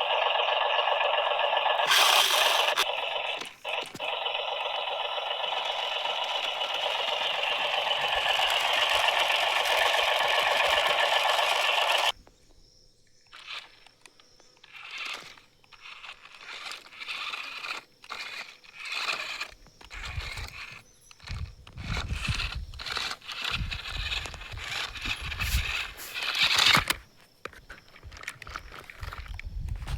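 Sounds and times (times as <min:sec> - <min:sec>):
toy vehicle electric whirring: 0:00.0 - 0:12.2, 0:13.3 - 0:29.9.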